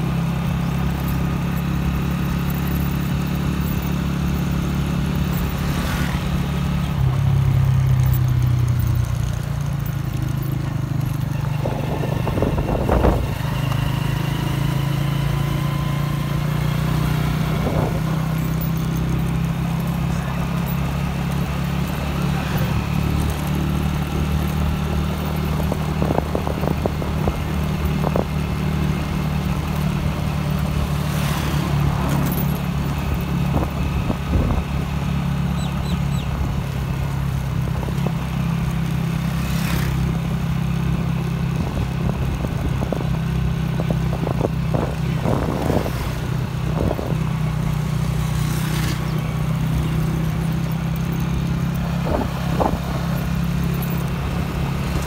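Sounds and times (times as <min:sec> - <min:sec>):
vehicle engine drone and road noise: 0:00.0 - 0:55.0.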